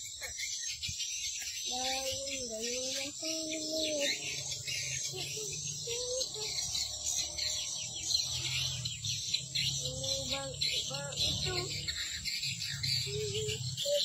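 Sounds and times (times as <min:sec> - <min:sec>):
high bird twittering: 0:00.0 - 0:14.0
lower wavering bird calls: 0:00.0 - 0:14.0.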